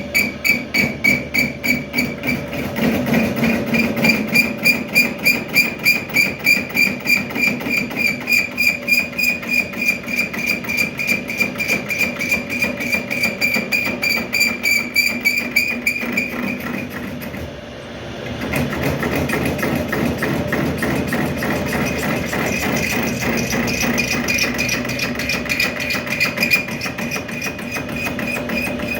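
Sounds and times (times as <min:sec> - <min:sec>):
lathe cutting tool squealing: 0:00.0 - 0:17.4, 0:18.7 - 0:28.9.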